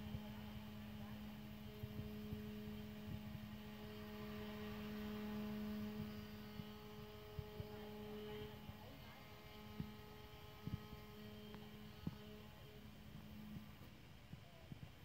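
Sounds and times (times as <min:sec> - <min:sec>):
high machine tone: 0:00.0 - 0:13.8
milling machine motor hum: 0:00.0 - 0:14.0.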